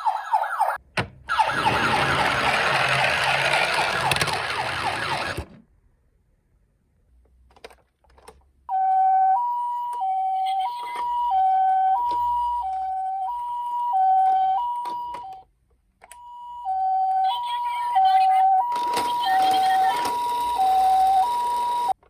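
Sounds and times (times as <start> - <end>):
two-tone ambulance siren: 0.0 - 5.5, 8.7 - 15.4, 16.2 - 22.0.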